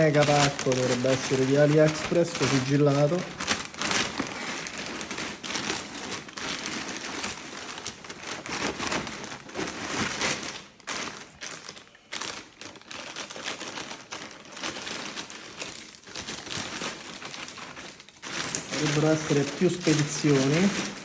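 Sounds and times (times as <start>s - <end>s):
plastic and paper wrap crinkling: 0.0s - 21.0s.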